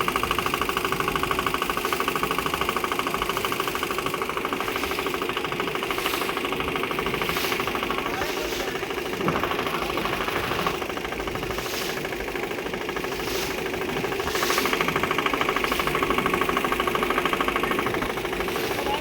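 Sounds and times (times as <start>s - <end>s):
motorboat engine knocking: 0.0s - 19.0s.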